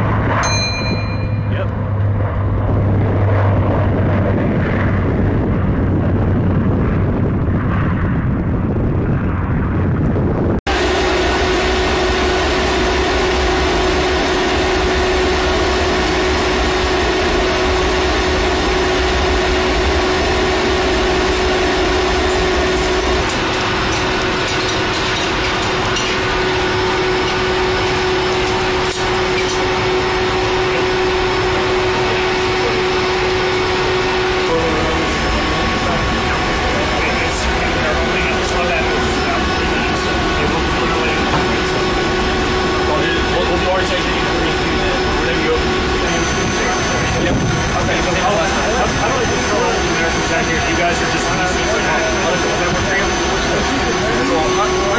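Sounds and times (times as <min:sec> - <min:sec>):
constant hum: 0:00.0 - 0:54.9
loud engine roar inside aircraft: 0:00.0 - 0:54.9
propeller drone: 0:00.0 - 0:54.9.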